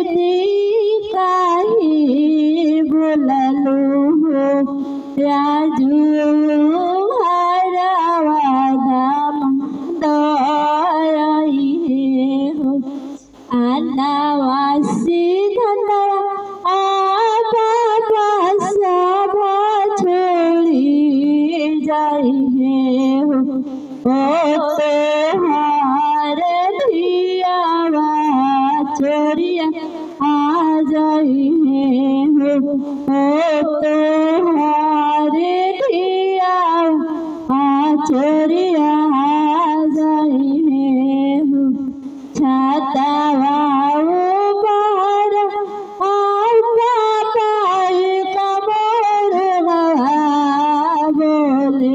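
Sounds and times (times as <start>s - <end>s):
woman singing folk song: 0.0s - 51.9s.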